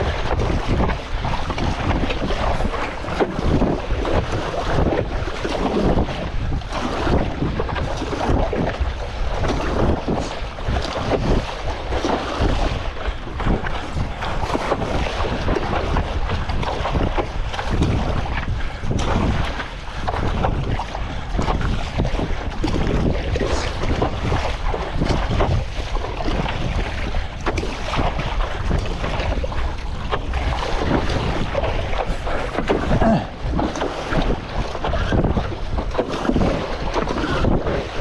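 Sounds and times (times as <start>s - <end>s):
choppy water splashing: 0.0s - 38.0s
wind buffeting microphone: 0.0s - 38.0s.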